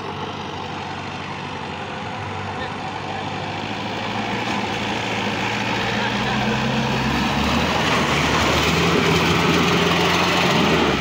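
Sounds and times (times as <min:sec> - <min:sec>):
jeep engine running under load: 0:00.0 - 0:11.0
wheels splashing water: 0:00.0 - 0:11.0.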